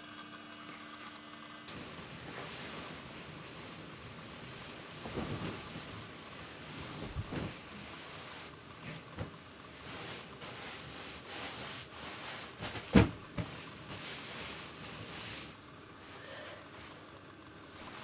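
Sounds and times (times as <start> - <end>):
bedding rustling: 1.8 - 18.0.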